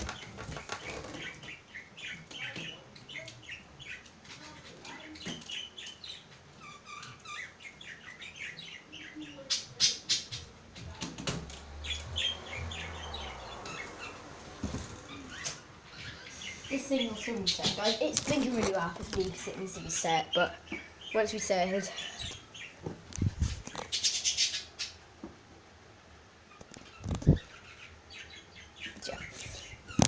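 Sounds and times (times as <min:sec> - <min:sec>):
small bird chirping and chattering: 0:00.0 - 0:14.2, 0:15.0 - 0:25.0, 0:26.5 - 0:30.0.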